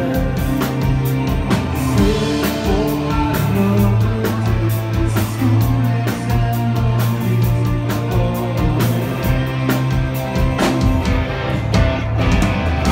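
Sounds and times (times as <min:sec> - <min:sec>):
bass line: 0:00.0 - 0:12.9
drum kit beat: 0:00.0 - 0:12.9
electric guitar: 0:00.0 - 0:12.9.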